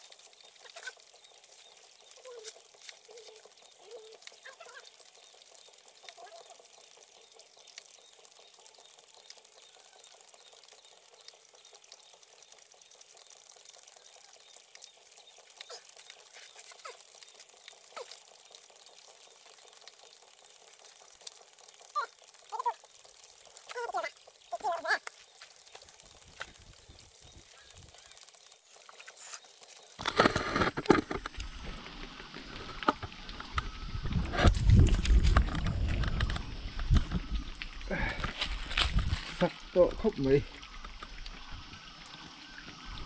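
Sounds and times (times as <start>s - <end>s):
light ticks and rustles: 0.0s - 33.7s, 34.4s - 41.4s.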